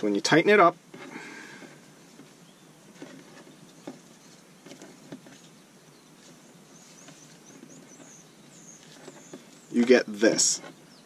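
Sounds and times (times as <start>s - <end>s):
rope rustling and scraping: 0.9s - 10.9s.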